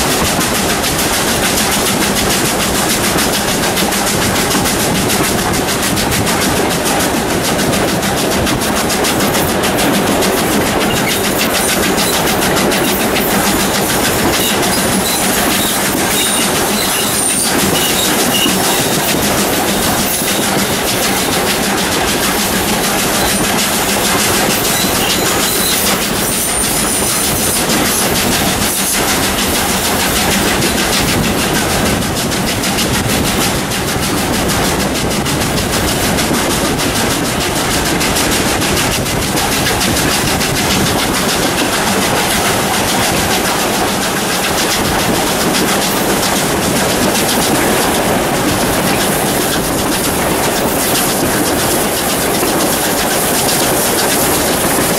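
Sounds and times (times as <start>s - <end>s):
steam locomotive running: 0.0s - 54.9s
train wheels on rails: 0.0s - 54.9s.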